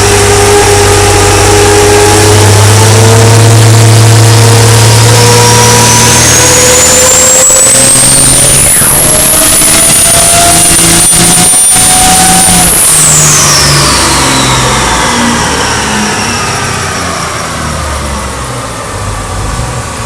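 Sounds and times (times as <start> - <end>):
high turbo whistle: 0.0 - 18.4
diesel truck engine pulling hard: 0.0 - 20.0.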